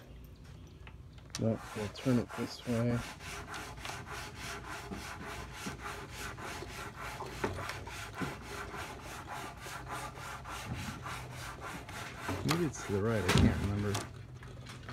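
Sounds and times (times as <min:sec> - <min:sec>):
steady rubbing noise: 0:01.4 - 0:14.1.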